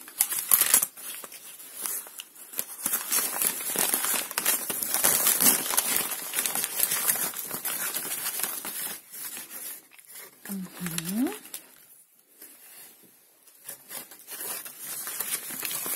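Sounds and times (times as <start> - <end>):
paper wrapping crinkling: 0.0 - 15.9.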